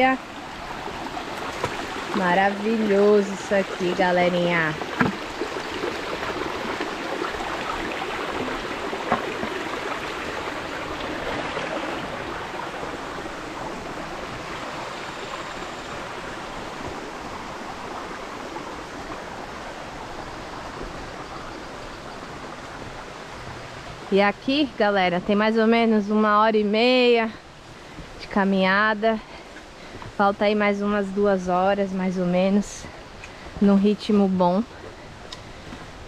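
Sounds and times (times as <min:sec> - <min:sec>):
stream water flowing: 0:00.0 - 0:36.0.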